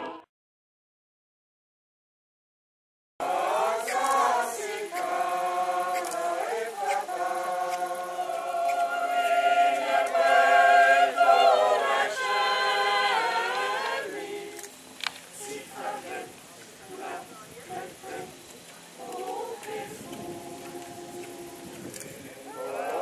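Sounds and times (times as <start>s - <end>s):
mixed choir singing chords: 3.2s - 23.0s.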